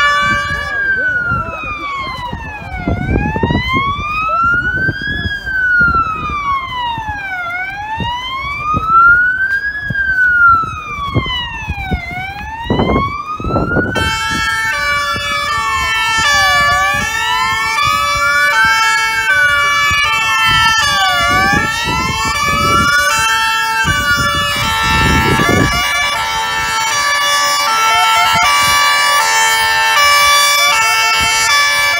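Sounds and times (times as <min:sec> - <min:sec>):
emergency sirens wailing: 0:00.0 - 0:31.9
stepped pitch siren tones: 0:00.0 - 0:31.9.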